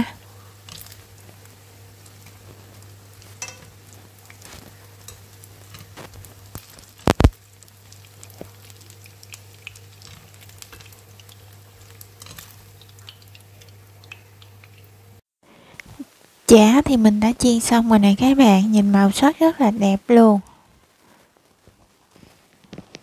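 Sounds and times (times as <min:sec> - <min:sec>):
patties sizzling in oil: 0:00.0 - 0:23.0.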